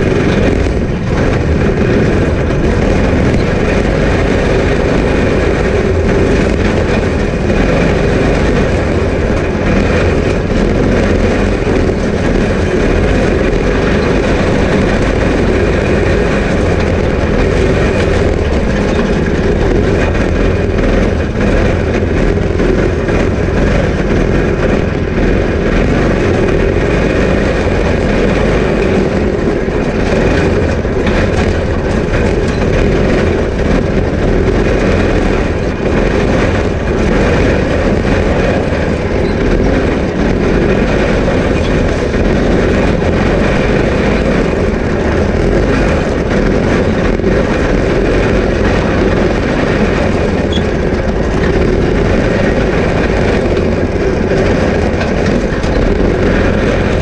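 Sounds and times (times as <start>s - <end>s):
go-kart engine under load: 0.0s - 57.0s.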